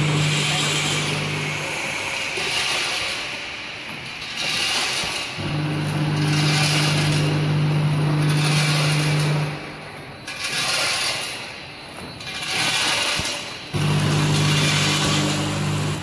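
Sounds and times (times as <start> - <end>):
packing machine clatter: 2.3 - 16.0.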